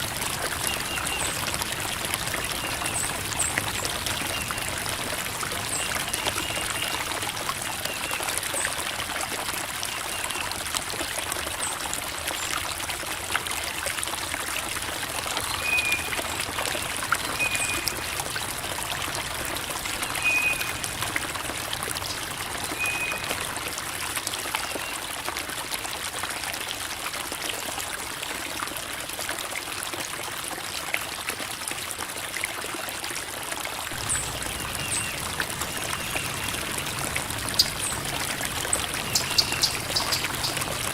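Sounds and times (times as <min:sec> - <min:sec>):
creek water babbling over rocks: 0:00.0 - 0:40.9.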